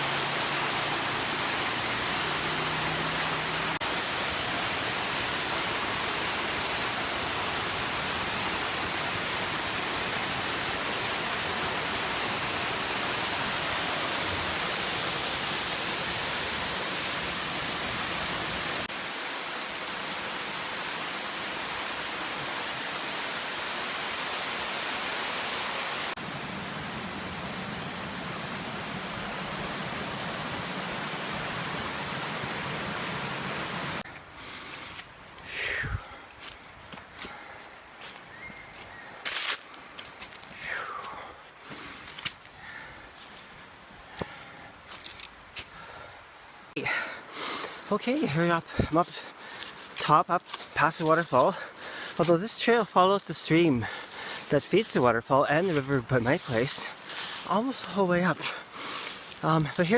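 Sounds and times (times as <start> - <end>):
waterfall and stream rushing: 0.0 - 59.9.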